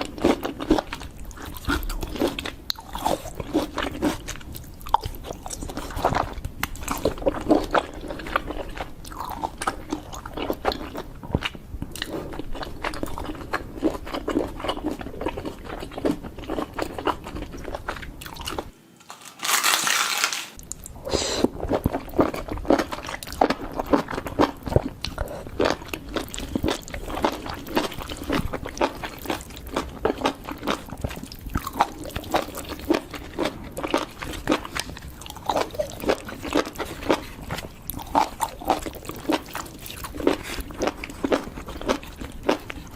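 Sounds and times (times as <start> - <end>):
crunchy sweets being chewed: 0.0 - 42.9.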